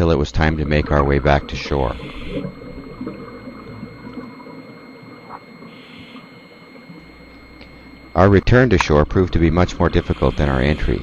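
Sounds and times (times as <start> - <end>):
faint high tones: 0.0 - 11.0
underwater water noise: 0.0 - 11.0.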